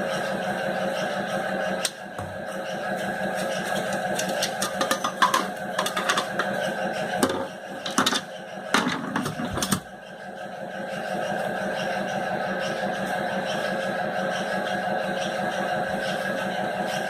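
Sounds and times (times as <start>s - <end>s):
steady hum: 0.0s - 14.1s.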